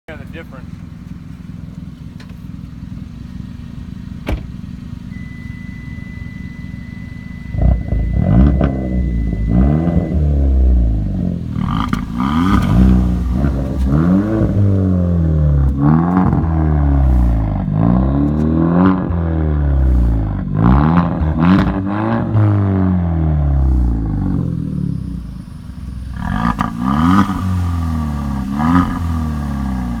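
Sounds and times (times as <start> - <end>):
car engine revving: 0.2 - 30.0.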